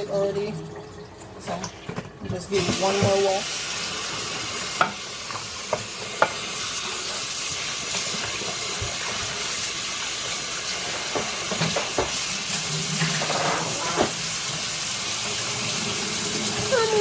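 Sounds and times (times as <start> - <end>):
kitchen tap running: 0.0 - 17.0.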